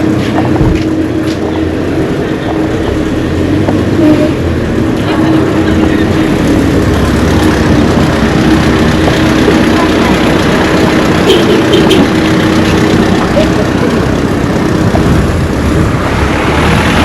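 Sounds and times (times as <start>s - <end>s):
loud background noise: 0.0s - 17.0s
vehicle engine humming: 0.0s - 17.0s.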